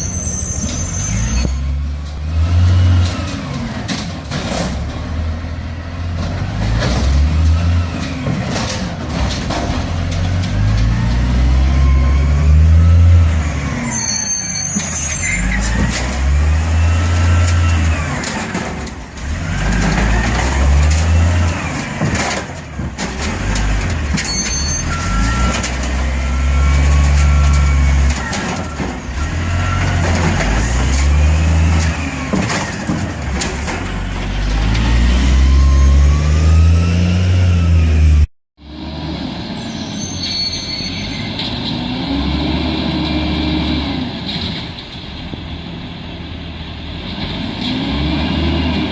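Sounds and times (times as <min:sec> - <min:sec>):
garbage truck engine revving: 0:00.6 - 0:40.0, 0:41.0 - 0:44.8, 0:46.9 - 0:48.9.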